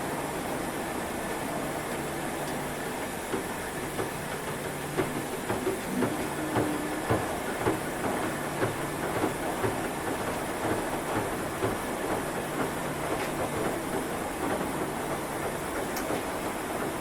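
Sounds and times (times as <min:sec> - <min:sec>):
washing machine drum whirring: 0:00.0 - 0:17.0
washing machine knocking: 0:00.9 - 0:17.0.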